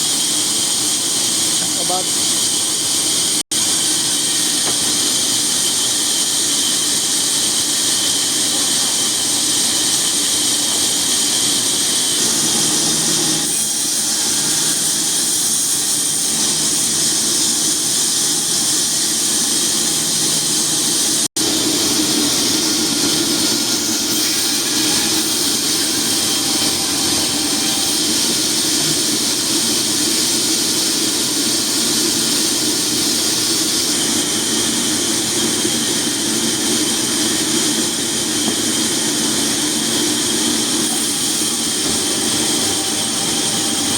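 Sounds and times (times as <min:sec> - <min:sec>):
sawmill saw running: 0:00.0 - 0:43.9.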